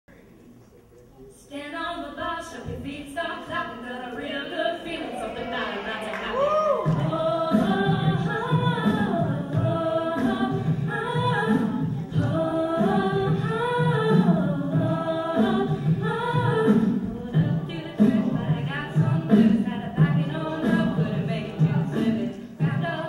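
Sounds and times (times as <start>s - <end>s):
backing vocals in harmony: 3.4s - 23.0s
lead voice singing: 4.1s - 23.0s.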